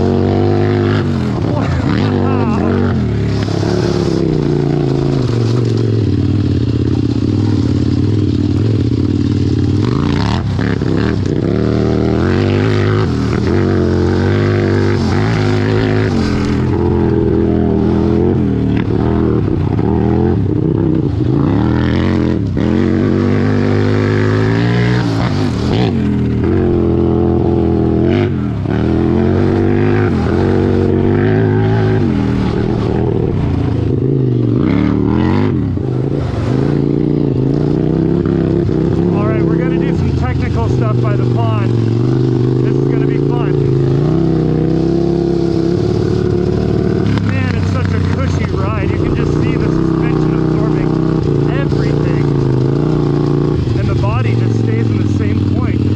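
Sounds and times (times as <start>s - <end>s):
engine revving: 0.0s - 55.9s.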